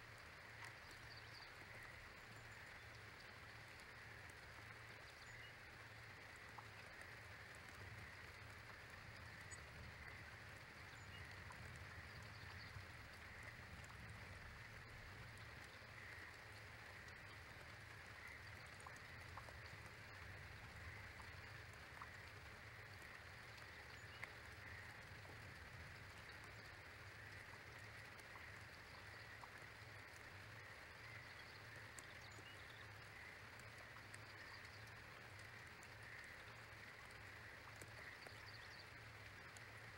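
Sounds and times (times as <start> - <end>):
faint outdoor hiss: 0.0 - 39.9
faint ticks: 0.0 - 39.9.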